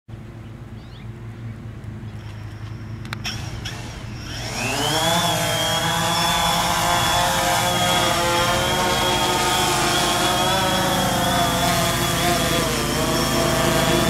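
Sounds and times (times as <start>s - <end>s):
drone propellers buzzing with high whine: 0.1s - 14.0s.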